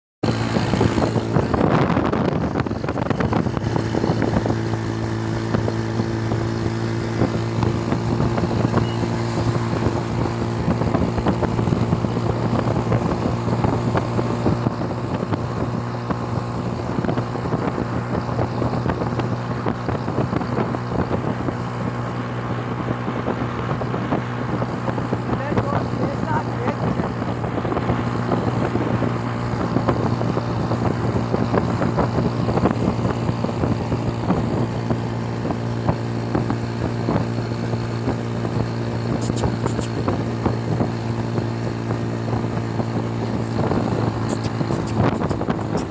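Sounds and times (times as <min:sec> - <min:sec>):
motorcycle engine running: 0:00.2 - 0:45.9
wind rumbling on microphone: 0:00.2 - 0:45.9.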